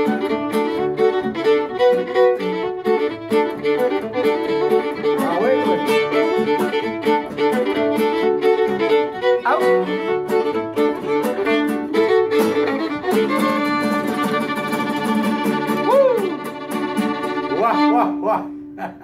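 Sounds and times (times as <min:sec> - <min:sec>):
fiddle playing a fast reel: 0:00.0 - 0:18.1
strummed acoustic guitar: 0:00.0 - 0:19.0.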